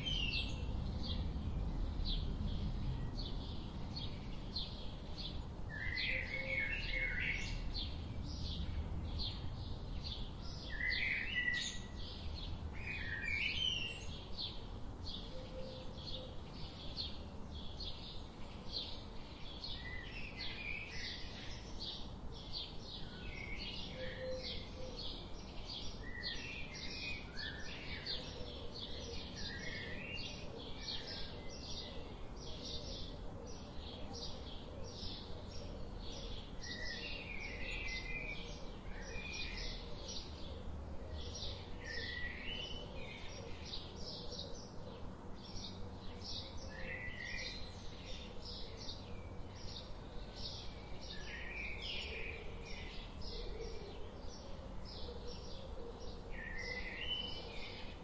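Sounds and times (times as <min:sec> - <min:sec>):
low background noise: 0:00.0 - 0:58.0.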